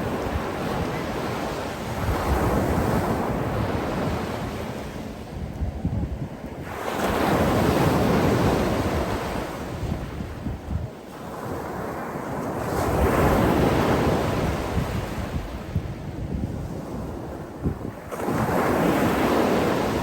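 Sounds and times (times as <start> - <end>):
sea waves breaking on shore: 0.0 - 20.0
wind noise on microphone: 0.0 - 20.0.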